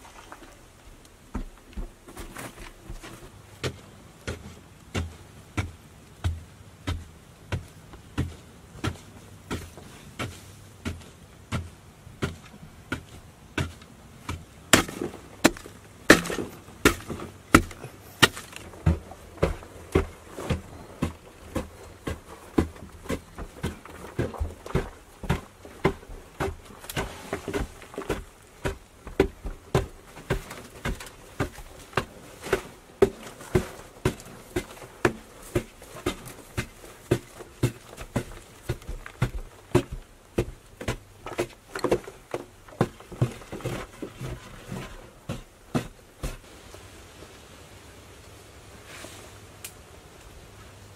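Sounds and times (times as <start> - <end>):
digging tool chopping earth: 3.6 - 46.4.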